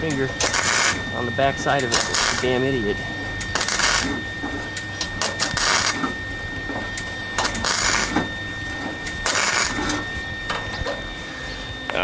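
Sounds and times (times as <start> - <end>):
welding arc crackling: 0.0 - 10.8.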